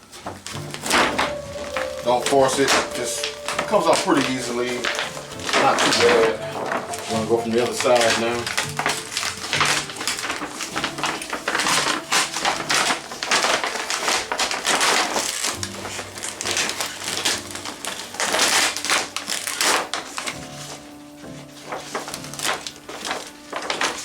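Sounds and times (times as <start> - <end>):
plastic sheet crackling and rustling: 0.0 - 24.0
soft background music: 0.0 - 24.0.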